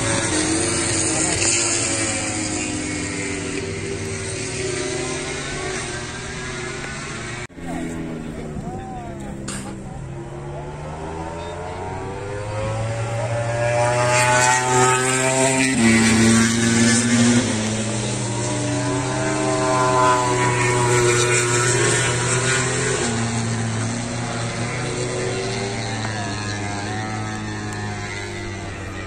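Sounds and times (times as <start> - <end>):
racing motorcycles passing at speed: 0.0 - 29.0.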